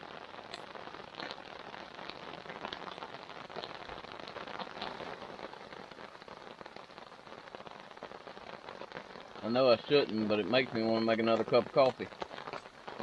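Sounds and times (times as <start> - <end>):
rain falling on fabric tarp: 0.0 - 13.0.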